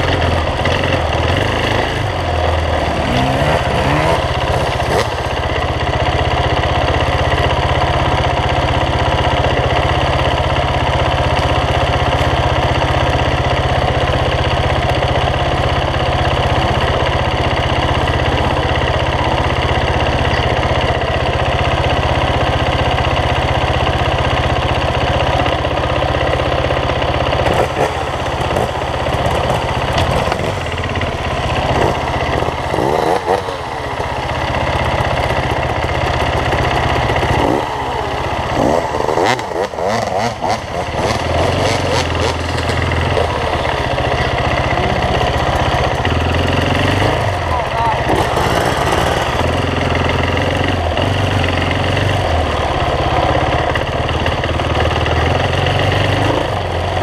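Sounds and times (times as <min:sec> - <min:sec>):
dirt bike engines idling and revving: 0:00.0 - 0:57.0.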